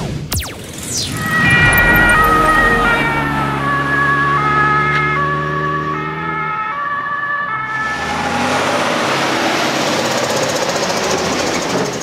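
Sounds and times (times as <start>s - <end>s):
truck engine and tyre rumble: 0.0s - 12.0s
two-tone emergency siren: 0.3s - 10.2s.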